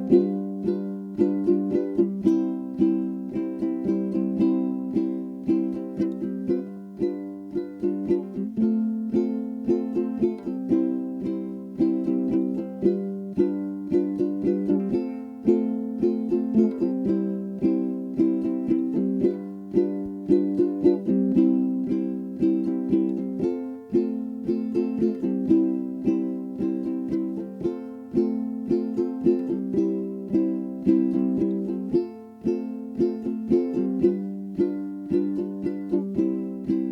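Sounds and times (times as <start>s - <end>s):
ukulele plucking upbeat tune: 0.0s - 36.9s.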